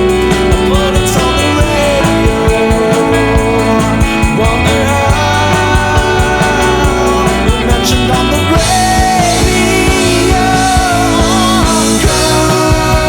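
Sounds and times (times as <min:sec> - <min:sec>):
bass notes: 0:00.0 - 0:13.0
drum hits: 0:00.0 - 0:13.0
electric guitars: 0:00.0 - 0:13.0
rock band music: 0:00.0 - 0:13.0.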